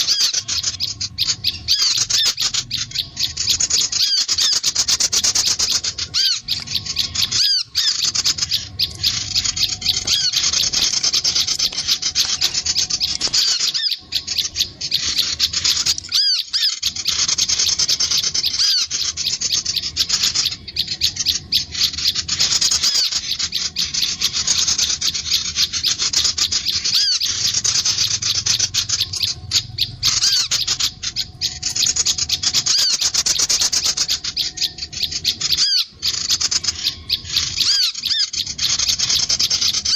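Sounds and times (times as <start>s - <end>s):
recorded bird calls: 0.0s - 39.9s.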